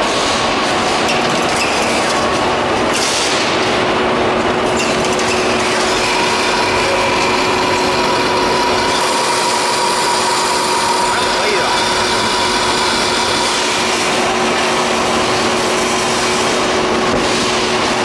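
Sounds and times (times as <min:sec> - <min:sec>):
packing machinery din: 0:00.0 - 0:18.0.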